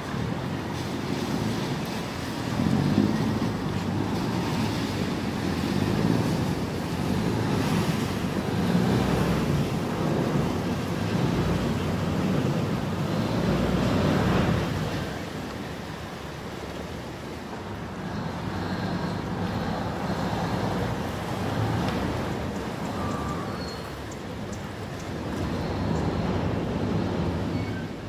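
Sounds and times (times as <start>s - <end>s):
boat engine running: 0.0s - 28.0s
churning water: 0.0s - 28.0s.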